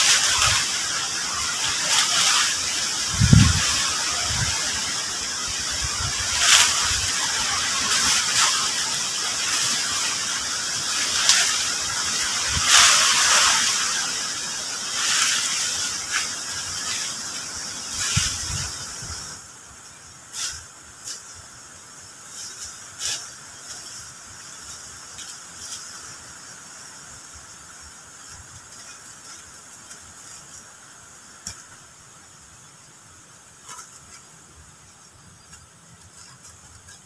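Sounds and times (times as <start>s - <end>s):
dry leaves rustling: 0.0s - 32.0s, 33.3s - 37.0s
steady high-pitched hiss: 0.0s - 37.0s.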